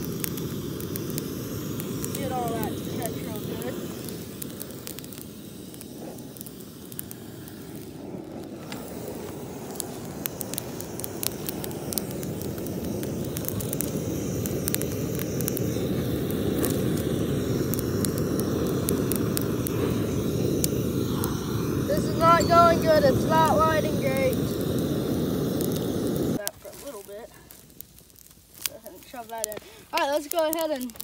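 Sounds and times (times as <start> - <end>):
kindling crackling and popping: 0.0 - 31.0
propane torch rushing: 0.0 - 31.0.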